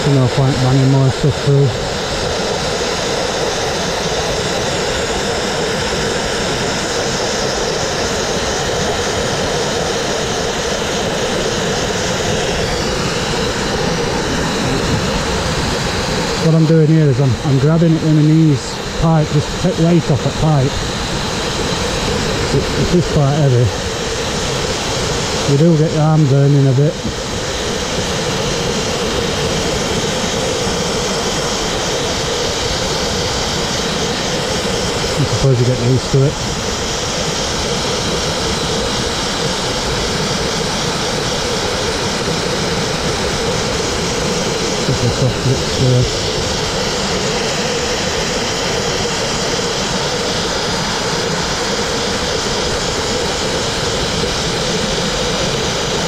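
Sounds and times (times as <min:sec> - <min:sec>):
abrasive blasting nozzle hissing: 0:00.0 - 0:56.0.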